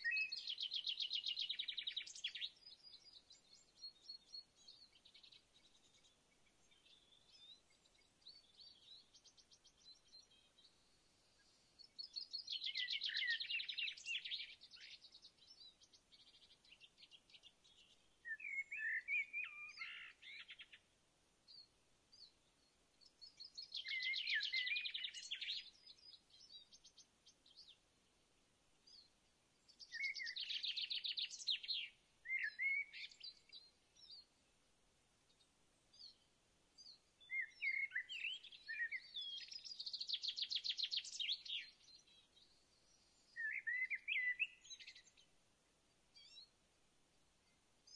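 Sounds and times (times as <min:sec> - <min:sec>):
songbird singing trills: 0:00.0 - 0:20.9, 0:21.5 - 0:27.8, 0:28.8 - 0:34.4, 0:35.3 - 0:45.4, 0:46.2 - 0:46.6.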